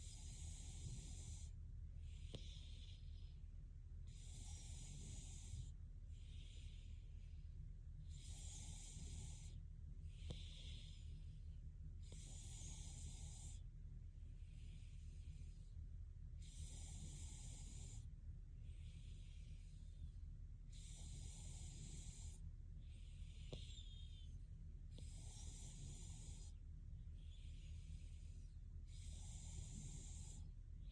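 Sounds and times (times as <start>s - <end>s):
woman breathing slowly in sleep: 0.0s - 30.9s.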